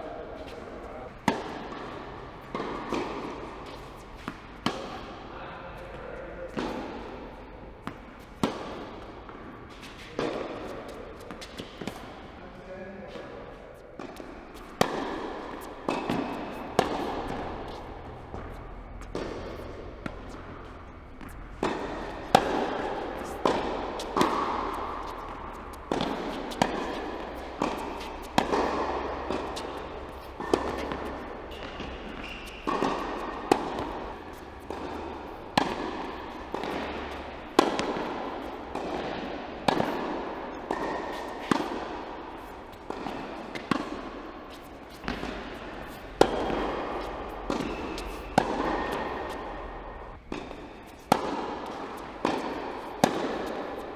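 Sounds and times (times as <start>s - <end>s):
tennis balls struck by rackets: 0.0s - 53.9s.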